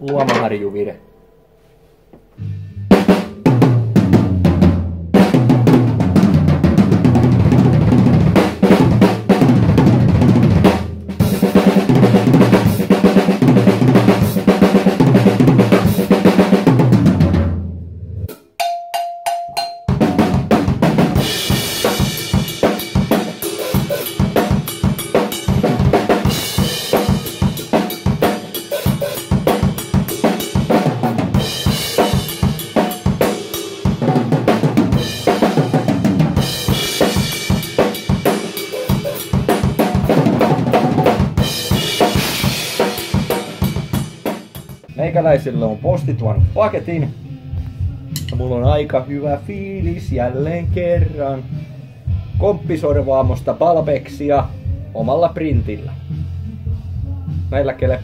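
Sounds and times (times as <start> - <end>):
drum fills on toms and bass drum: 2.2 - 17.7, 18.3 - 45.0, 46.2 - 58.0
drum beat with cymbals: 2.8 - 17.5, 18.3 - 45.0, 47.8 - 58.0.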